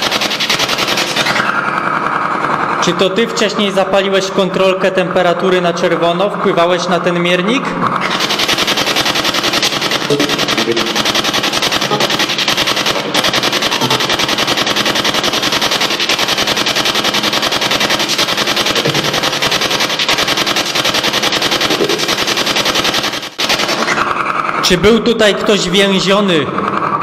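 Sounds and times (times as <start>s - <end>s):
pulsing radio static: 0.0s - 26.7s.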